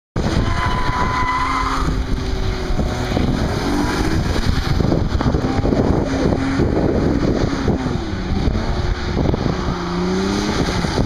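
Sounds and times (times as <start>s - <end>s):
car engines revving: 0.2s - 11.0s
wind buffeting microphone: 0.2s - 11.0s.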